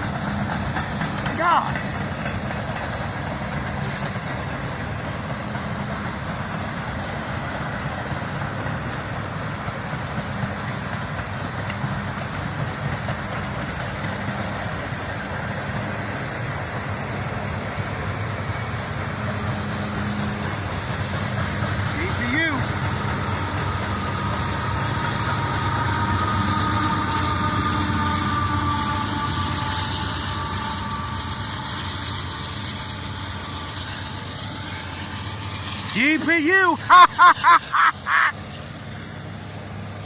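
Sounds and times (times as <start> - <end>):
freight train rumbling: 0.0 - 40.0.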